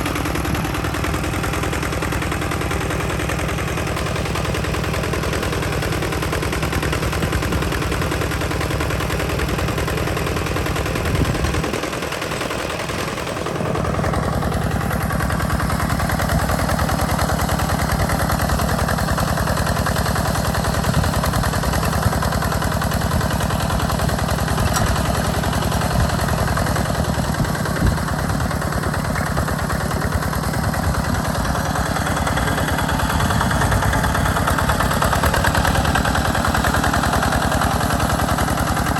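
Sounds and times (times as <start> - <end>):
diesel tractor engine chugging: 0.0 - 38.9.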